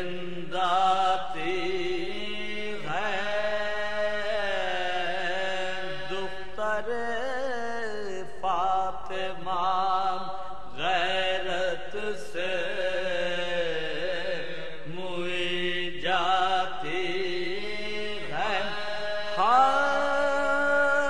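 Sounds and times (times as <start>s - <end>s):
man chanting unaccompanied: 0.0s - 21.0s.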